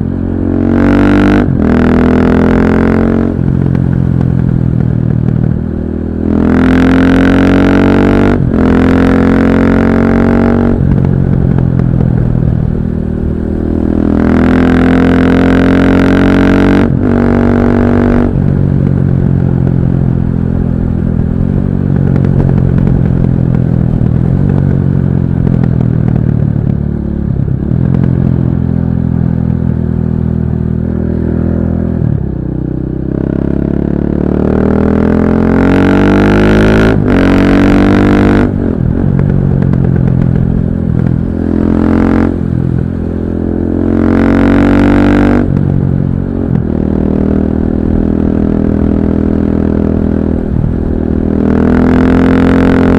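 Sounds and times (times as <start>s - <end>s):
muffled motorcycle engine revving: 0.0s - 52.9s.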